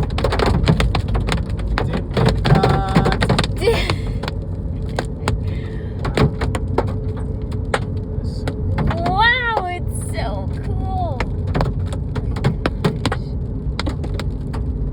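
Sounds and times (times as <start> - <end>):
hailstones pelting car body: 0.0 - 14.8
car rumbling on road: 0.0 - 14.9.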